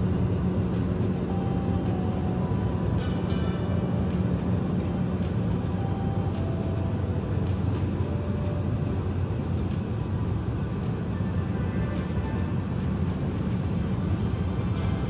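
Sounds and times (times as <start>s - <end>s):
aircraft engine drone in cabin: 0.0s - 15.0s.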